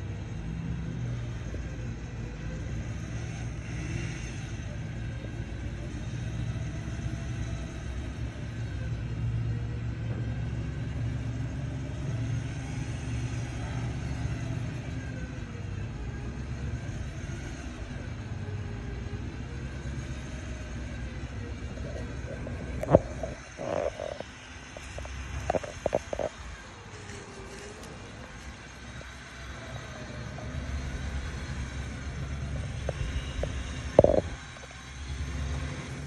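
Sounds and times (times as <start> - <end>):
electric winch whine: 0.0 - 36.0
pickup engine rumbling: 0.0 - 36.0.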